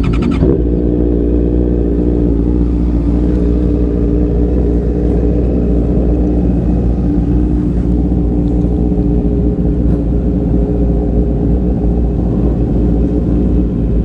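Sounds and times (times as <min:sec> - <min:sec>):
low rumble: 0:00.0 - 0:14.0
motorcycle engine running: 0:00.0 - 0:14.0.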